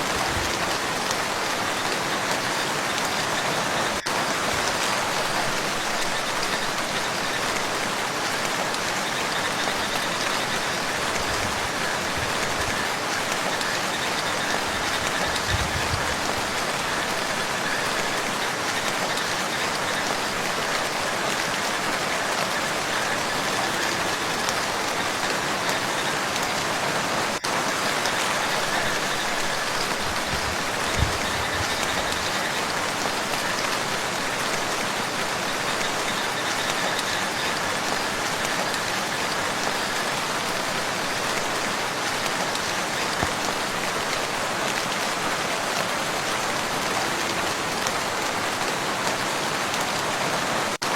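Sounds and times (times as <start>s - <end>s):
rain falling on a lake: 0.0s - 50.9s.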